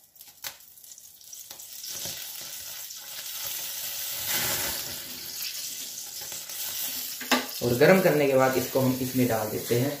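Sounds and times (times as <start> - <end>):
butter sizzling in a ladle: 0.1 - 10.0.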